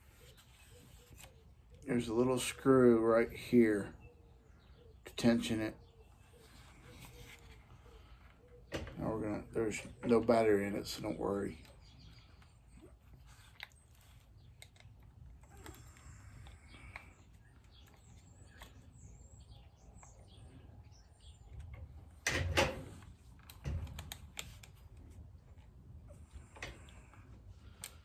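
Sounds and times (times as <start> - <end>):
birds chirping faintly: 0.0 - 28.0.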